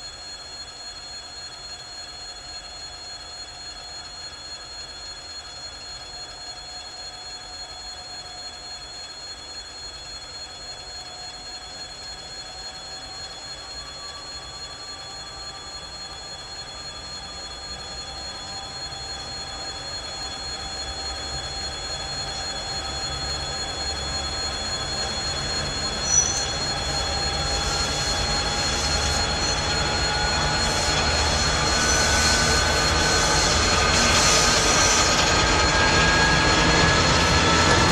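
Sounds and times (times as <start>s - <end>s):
diesel locomotive engine whine: 0.0s - 37.9s
train wheel squeal: 0.0s - 37.9s.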